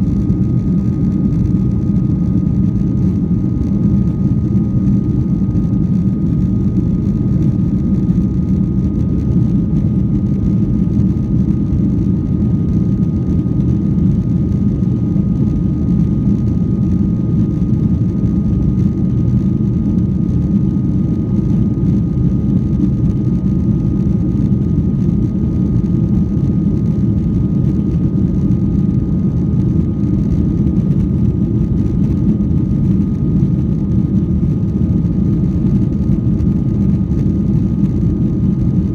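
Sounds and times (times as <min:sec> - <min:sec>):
airliner engines rumbling: 0:00.0 - 0:38.9
faint thin engine whine: 0:00.0 - 0:38.9.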